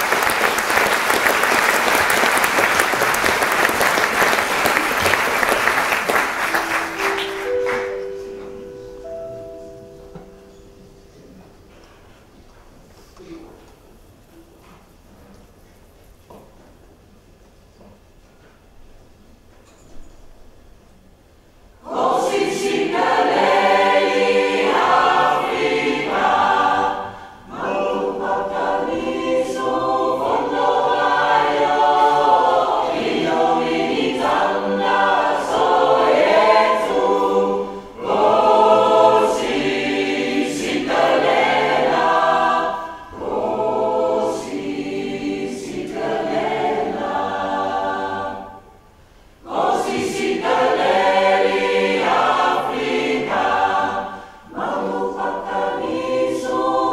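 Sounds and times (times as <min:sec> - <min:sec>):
mixed choir singing: 0:00.0 - 0:10.9, 0:21.8 - 0:56.9.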